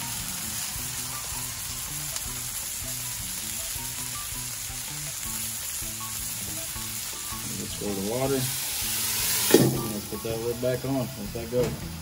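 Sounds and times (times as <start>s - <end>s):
steaks sizzling on a griddle: 0.0s - 12.0s.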